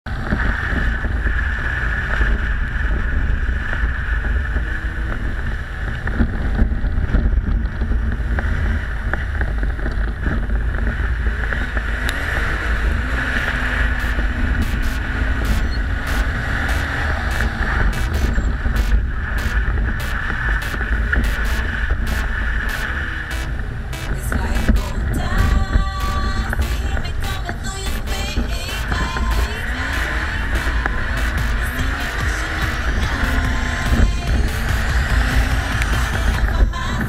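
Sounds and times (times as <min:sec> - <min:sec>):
faint car engine: 0:00.0 - 0:37.0
wind buffeting microphone: 0:00.1 - 0:37.0.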